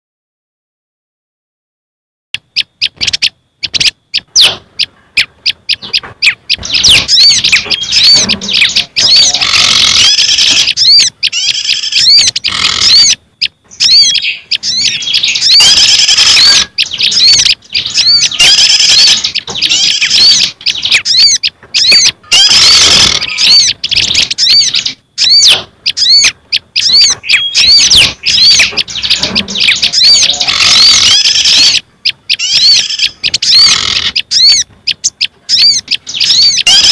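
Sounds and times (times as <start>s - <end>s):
songbirds chirping and whistling: 2.4s - 36.9s.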